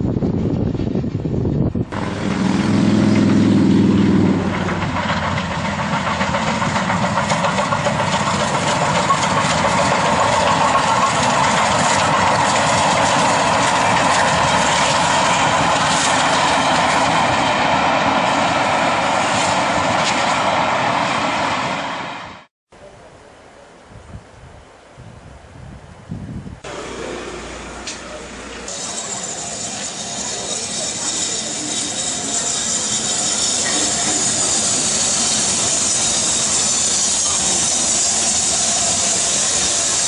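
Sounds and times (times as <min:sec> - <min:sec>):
train passing at speed: 0:00.0 - 0:22.5, 0:26.6 - 0:40.0.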